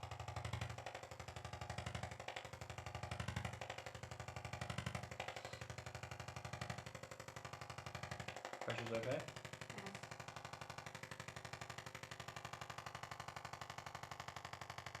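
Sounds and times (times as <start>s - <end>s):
percussion massager pulsing: 0.0s - 15.0s.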